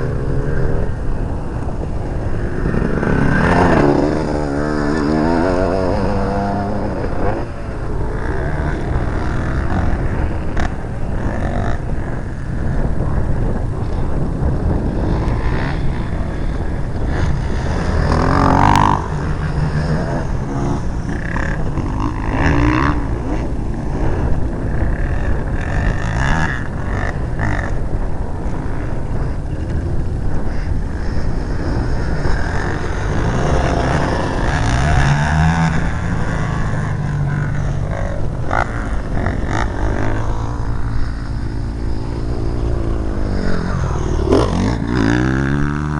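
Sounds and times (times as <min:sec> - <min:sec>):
constant low rumble: 0:00.0 - 0:45.9
dirt bike engine revving: 0:00.0 - 0:45.9.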